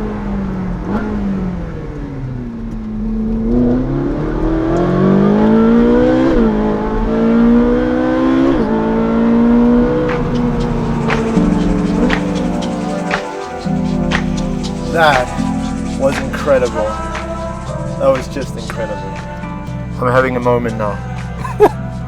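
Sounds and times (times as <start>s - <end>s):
sports car engine accelerating: 0.2s - 22.0s.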